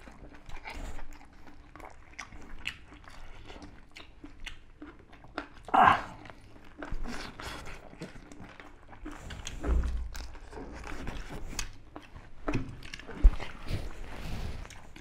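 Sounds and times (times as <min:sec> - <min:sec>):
people chewing meat: 0:00.0 - 0:15.0.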